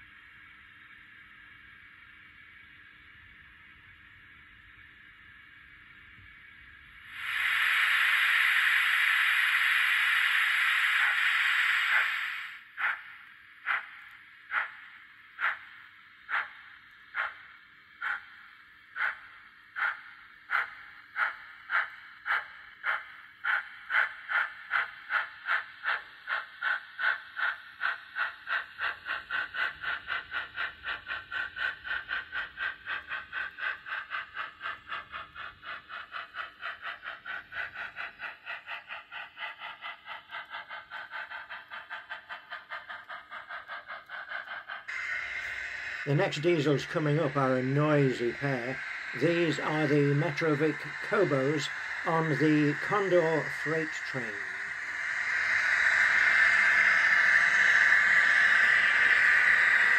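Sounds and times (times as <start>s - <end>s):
steam locomotive exhaust chuffs: 0.0s - 59.9s.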